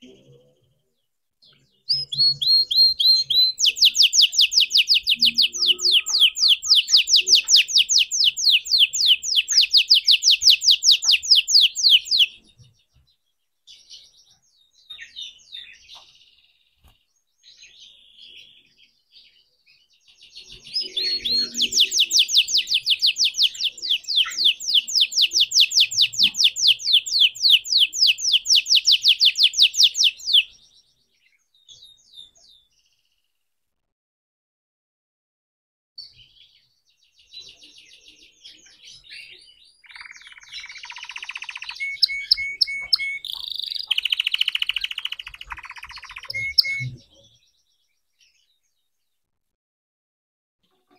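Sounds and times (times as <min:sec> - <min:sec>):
canary singing trills: 0:00.0 - 0:13.1, 0:13.7 - 0:33.2, 0:36.0 - 0:48.9.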